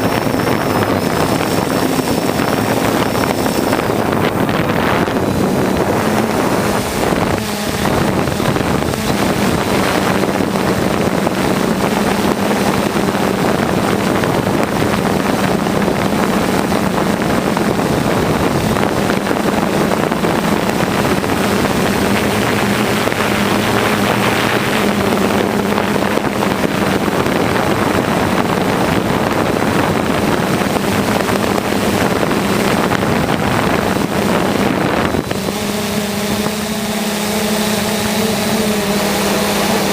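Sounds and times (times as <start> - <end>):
drone motors whirring: 0.0 - 39.9
wind on microphone: 0.0 - 39.9.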